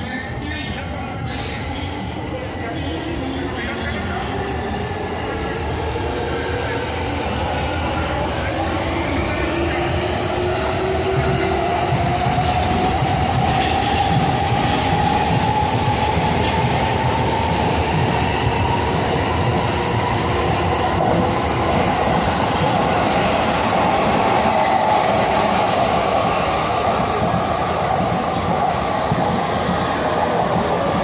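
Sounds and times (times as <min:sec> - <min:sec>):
train wheels rumbling on rails: 0:03.1 - 0:31.0.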